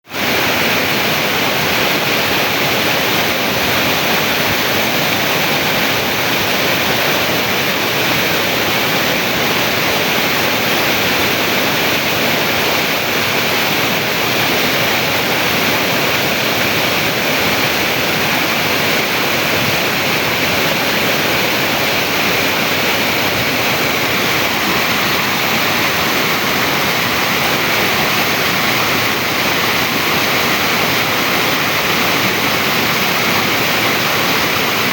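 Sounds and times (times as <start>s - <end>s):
stream water rushing over rock: 0.0s - 34.9s.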